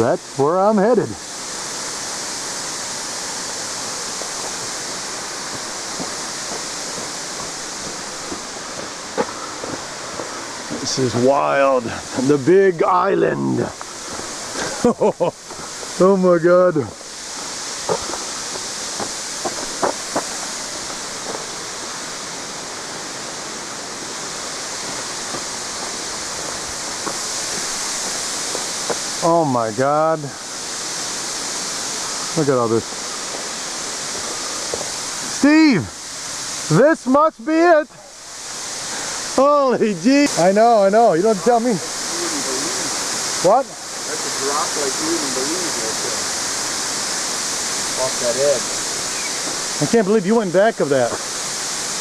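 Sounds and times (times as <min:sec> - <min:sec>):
waterfall roaring: 0:00.0 - 0:52.0.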